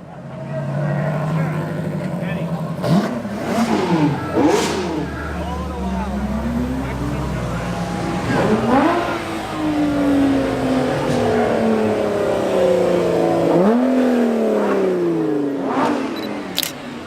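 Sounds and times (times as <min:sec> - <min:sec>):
car engine revving: 0:00.4 - 0:17.0.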